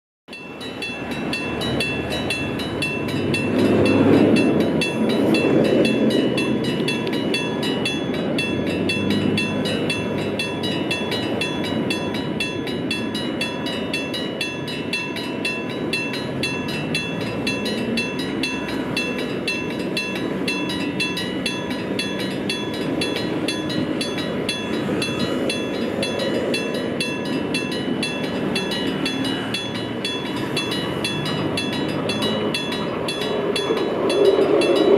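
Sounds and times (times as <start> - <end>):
level crossing bell clanging: 0.3 - 34.9.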